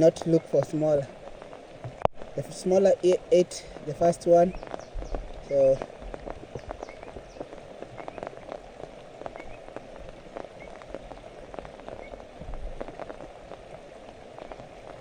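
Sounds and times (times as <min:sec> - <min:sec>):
raindrops ticking: 0:00.0 - 0:15.0
steady rain falling: 0:00.0 - 0:15.0.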